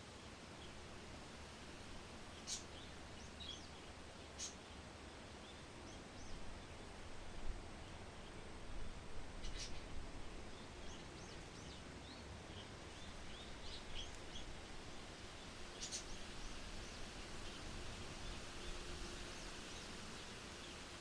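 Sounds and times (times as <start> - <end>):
wind: 0.0 - 21.0
small birds chirping: 2.2 - 20.8.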